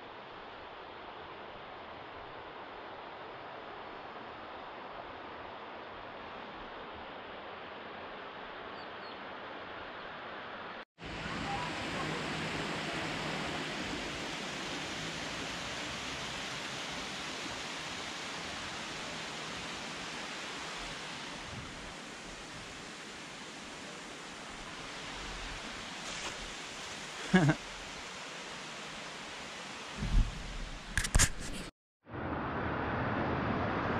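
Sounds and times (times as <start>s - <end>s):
rushing water: 0.0s - 31.1s.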